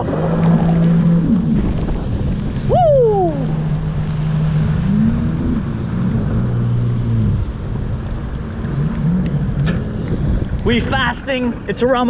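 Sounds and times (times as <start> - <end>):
watercraft engine running: 0.0 - 11.7
water rushing: 0.0 - 12.0
wind: 0.0 - 12.0.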